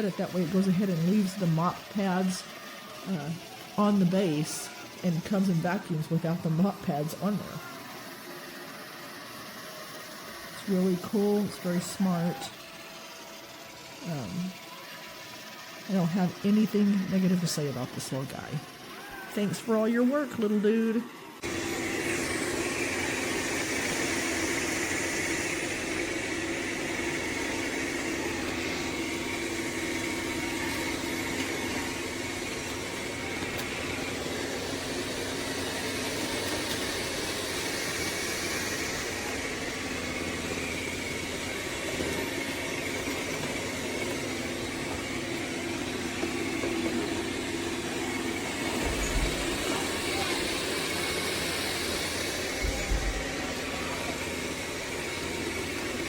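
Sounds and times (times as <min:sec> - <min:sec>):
robot vacuum whirring: 0:00.0 - 0:56.0.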